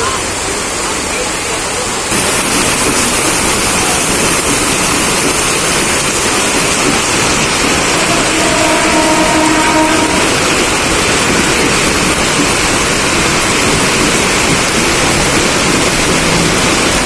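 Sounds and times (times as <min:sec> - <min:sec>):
heavy rain: 0:00.0 - 0:17.0
train running: 0:00.0 - 0:17.0.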